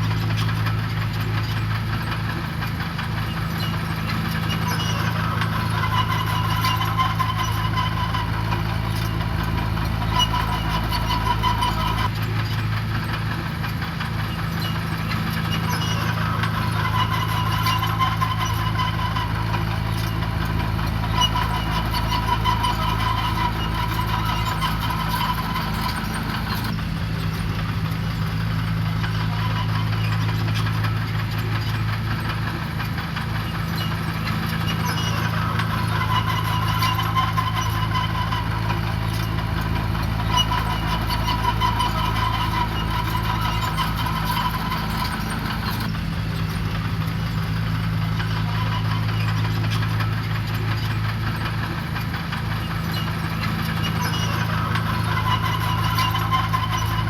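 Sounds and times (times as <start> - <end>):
heavy machinery diesel engine: 0.0 - 57.0
high engine whine: 0.0 - 57.0.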